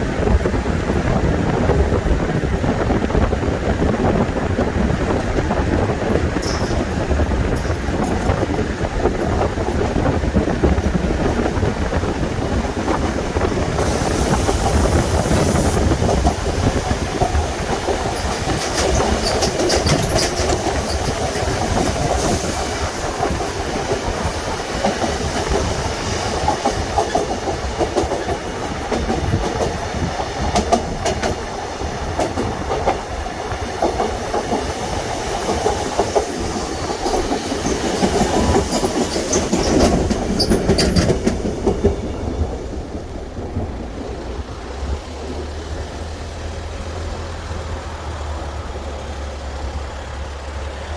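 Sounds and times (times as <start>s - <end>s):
train rumbling over bridge: 0.0s - 50.9s
wheels clattering over rail joints: 0.0s - 50.9s
wind buffeting microphone: 0.0s - 50.9s.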